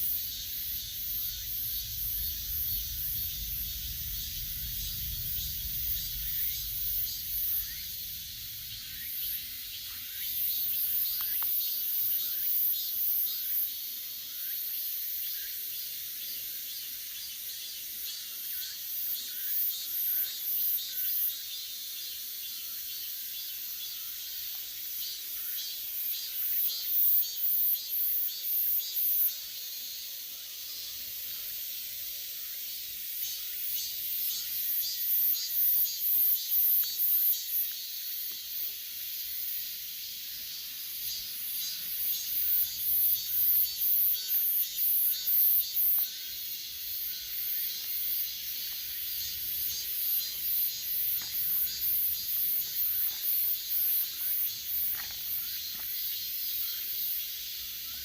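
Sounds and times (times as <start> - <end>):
cicadas pulsing drone: 0.0 - 58.0.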